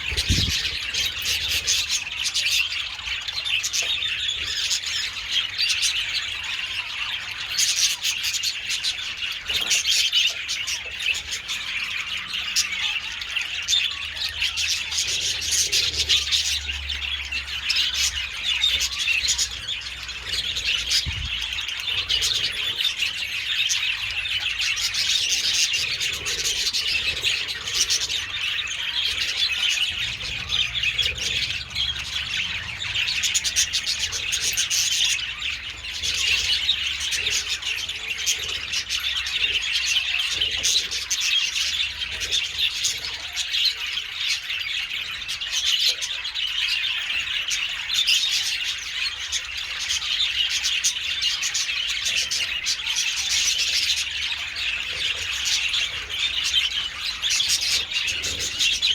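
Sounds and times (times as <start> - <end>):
budgerigars chattering: 0.0 - 58.9.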